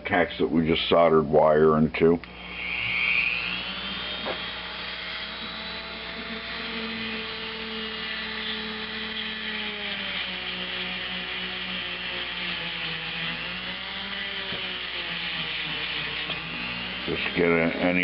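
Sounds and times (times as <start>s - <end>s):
rotary tool with wire brush: 2.4s - 18.0s.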